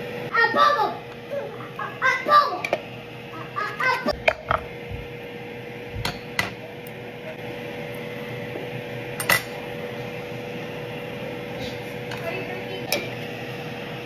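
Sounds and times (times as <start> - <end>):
air fryer humming: 0.0 - 14.0.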